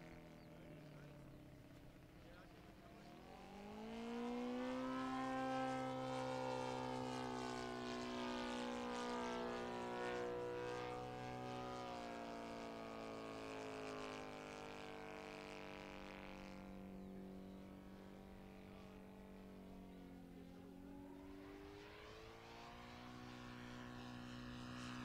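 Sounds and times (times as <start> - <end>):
model plane engine and propeller: 0.0 - 25.0.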